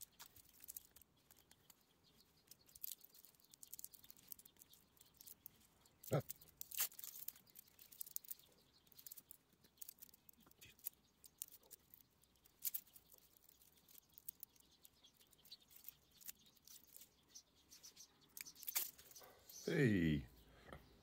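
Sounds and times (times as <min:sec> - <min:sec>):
plastic film crinkling: 0:00.0 - 0:19.3.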